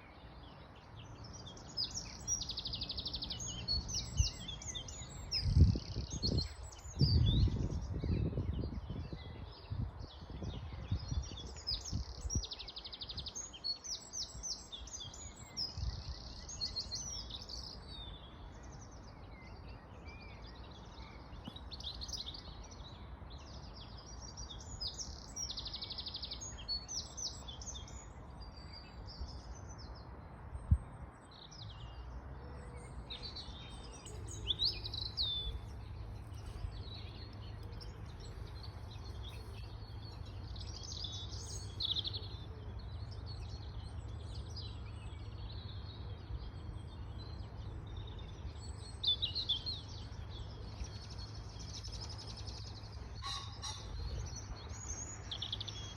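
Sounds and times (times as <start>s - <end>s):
birds chirping and trilling: 0.0s - 55.9s.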